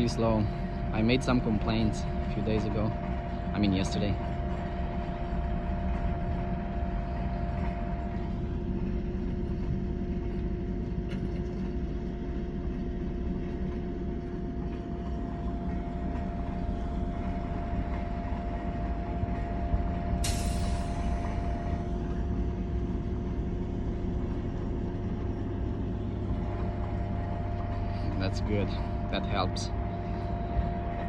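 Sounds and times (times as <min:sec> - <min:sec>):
drilling rig machinery rumbling: 0:00.0 - 0:31.0.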